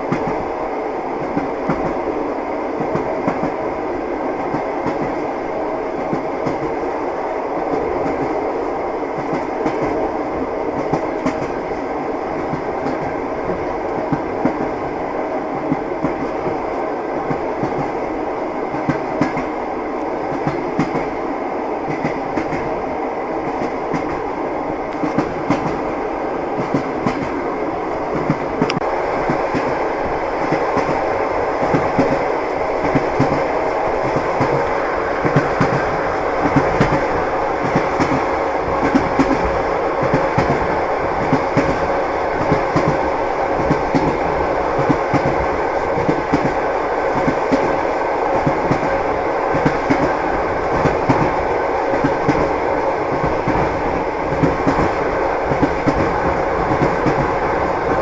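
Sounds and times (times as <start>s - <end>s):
train wheels on rail joints: 0.0s - 58.0s.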